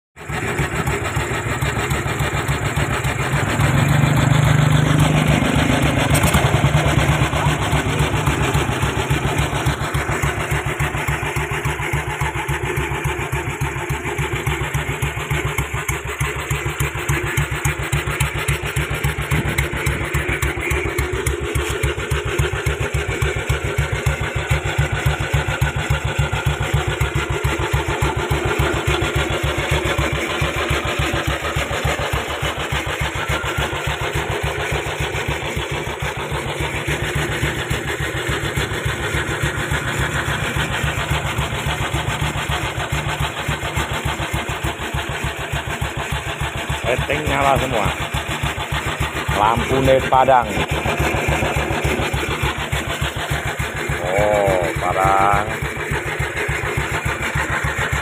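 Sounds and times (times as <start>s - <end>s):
motorcycle engine idling: 0.2s - 58.0s.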